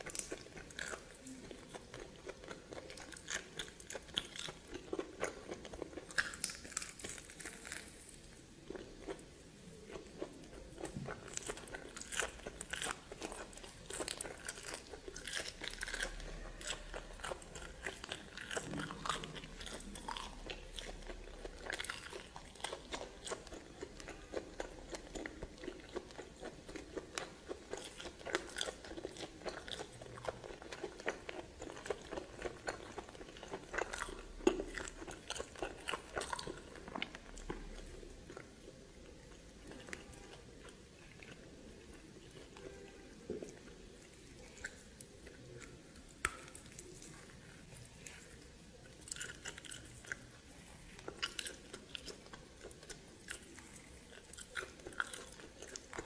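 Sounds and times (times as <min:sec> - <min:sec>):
biting and chewing: 0:00.0 - 0:56.0.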